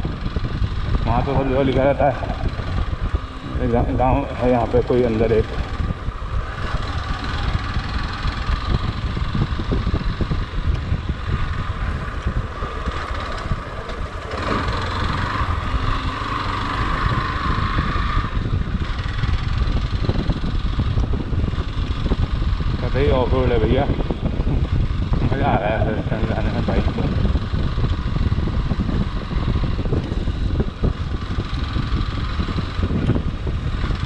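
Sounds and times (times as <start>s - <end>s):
motorcycle engine at low speed: 0.0s - 34.0s
wind buffeting microphone: 0.0s - 34.0s.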